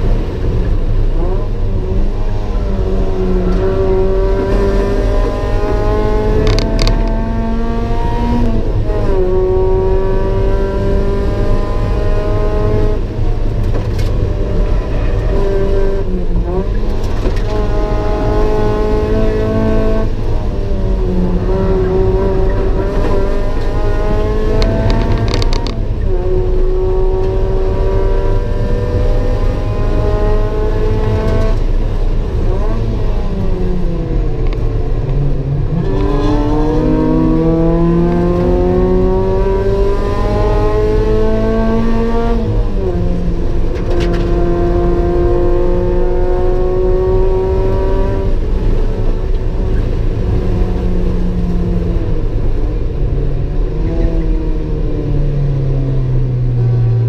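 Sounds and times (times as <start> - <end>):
car engine at full throttle: 0.0 - 57.0
road and wind noise: 0.0 - 57.0.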